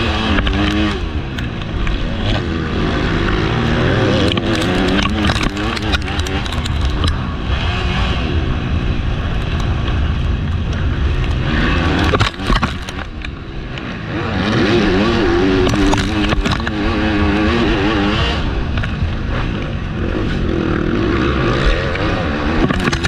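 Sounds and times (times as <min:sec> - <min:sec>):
motocross bike engine revving: 0:00.0 - 0:23.0
wind rumble on microphone: 0:00.0 - 0:23.0.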